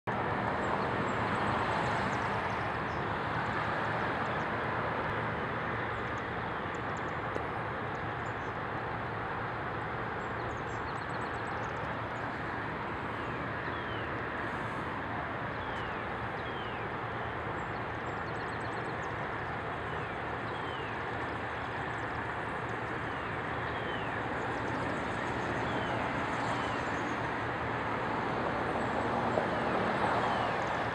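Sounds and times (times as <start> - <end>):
distant city traffic: 0.1 - 30.9.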